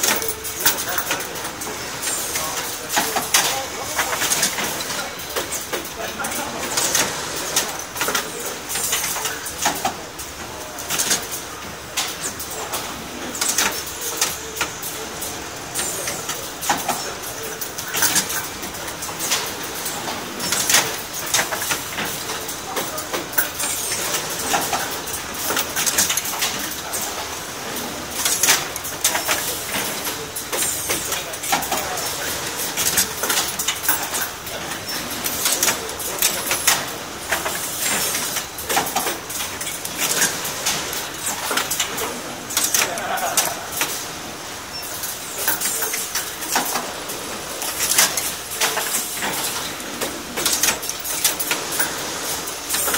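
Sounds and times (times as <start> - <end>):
garment bagging machine running: 0.0 - 52.9
hangers clicking and clacking: 0.0 - 52.9.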